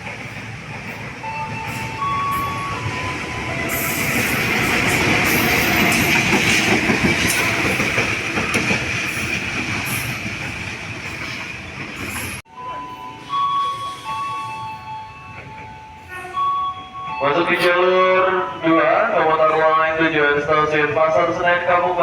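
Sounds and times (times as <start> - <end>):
passenger train rumbling on rails: 0.0 - 22.0.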